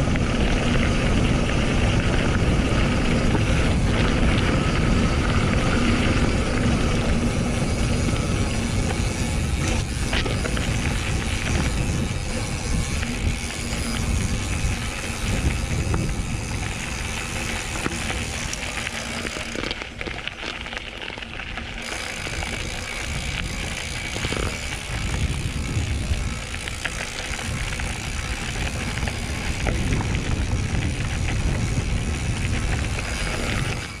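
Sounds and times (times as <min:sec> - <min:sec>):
bike rattling: 0:00.0 - 0:34.0
wind and tyre noise: 0:00.0 - 0:34.0.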